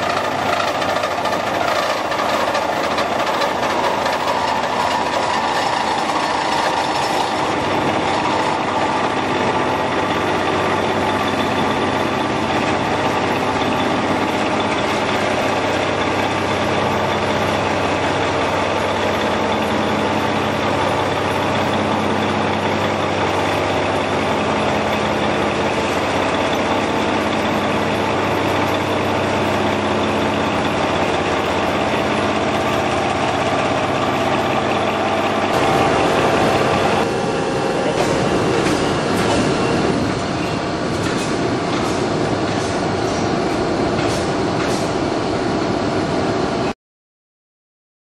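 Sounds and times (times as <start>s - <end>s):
milling machine cutting steel: 0.0s - 43.1s.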